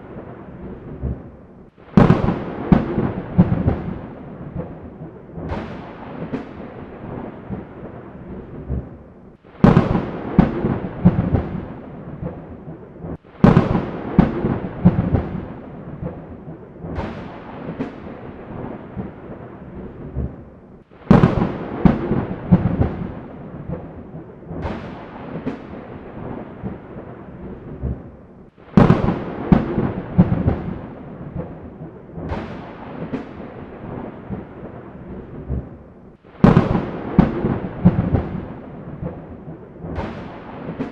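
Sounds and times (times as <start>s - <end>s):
thunder cracking and rumbling: 0.0s - 40.9s.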